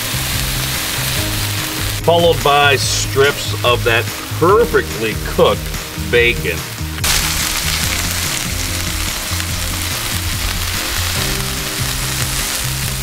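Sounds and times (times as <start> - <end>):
background music: 0.0 - 13.0
burger patties sizzling on griddle: 0.0 - 13.0.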